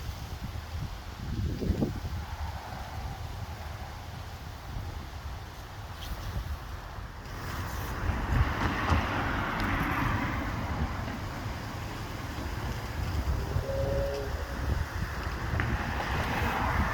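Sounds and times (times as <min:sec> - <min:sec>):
broad rushing noise: 0:00.0 - 0:16.9
wind buffeting microphone: 0:00.0 - 0:16.9.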